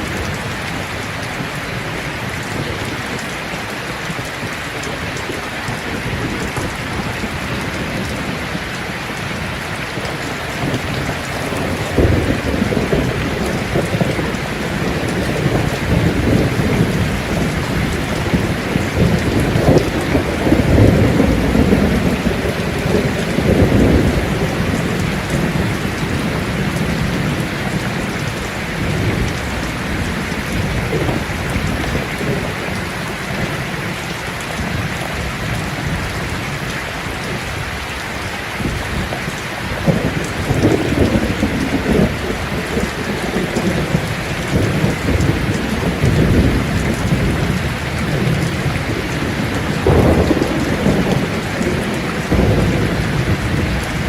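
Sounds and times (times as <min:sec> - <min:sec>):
rain falling: 0:00.0 - 0:54.0
thunder rumbling: 0:02.3 - 0:36.4, 0:38.6 - 0:54.0.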